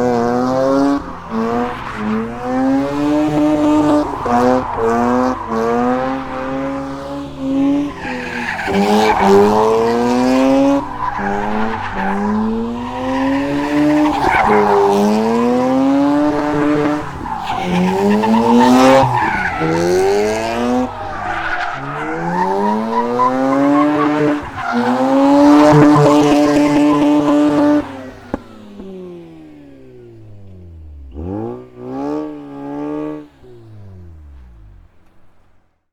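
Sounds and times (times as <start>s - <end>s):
rotary engine accelerating: 0.0s - 35.3s
engine rev: 0.0s - 35.6s.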